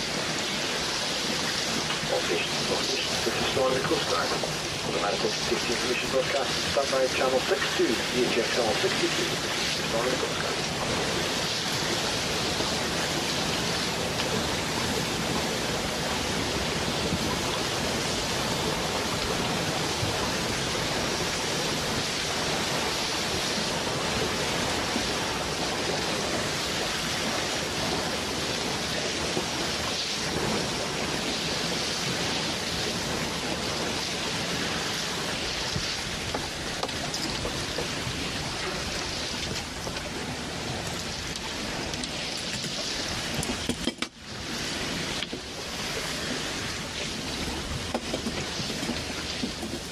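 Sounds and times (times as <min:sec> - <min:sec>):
rushing water hiss: 0:00.0 - 0:49.9.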